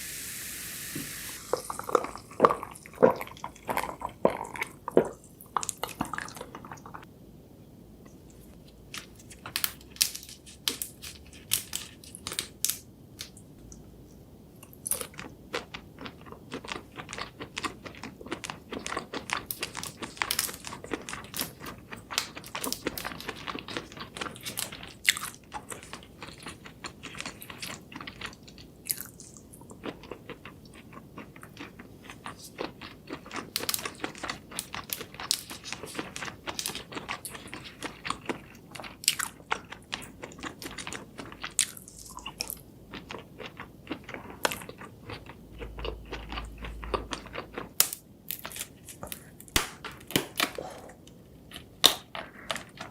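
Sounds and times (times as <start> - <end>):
person chewing crunchy food: 1.4 - 7.1, 14.6 - 52.9.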